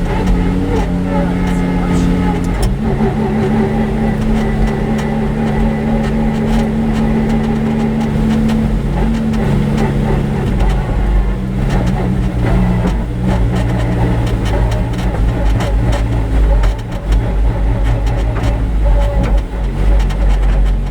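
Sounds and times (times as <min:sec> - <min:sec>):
race car engine running: 0:00.0 - 0:20.9.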